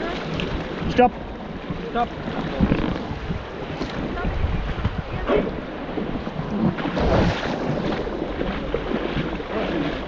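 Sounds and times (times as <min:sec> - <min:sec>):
river water rushing and splashing: 0:00.0 - 0:10.0
wind on microphone: 0:00.0 - 0:10.0.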